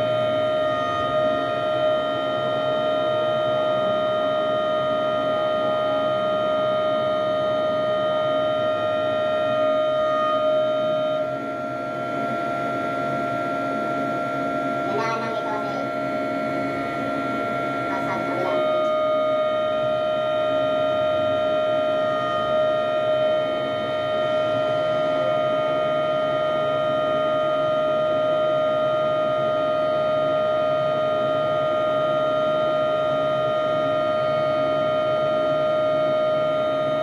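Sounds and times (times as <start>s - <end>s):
crane machinery whining: 0.0s - 37.0s.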